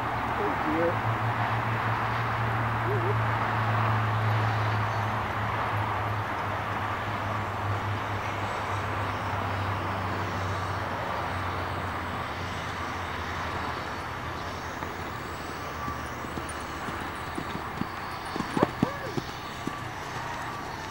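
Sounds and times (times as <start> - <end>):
rushing outdoor noise: 0.0 - 20.9.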